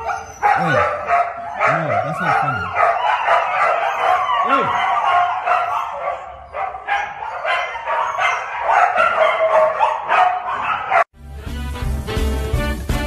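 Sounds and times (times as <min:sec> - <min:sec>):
husky whining and howling: 0:00.0 - 0:11.1.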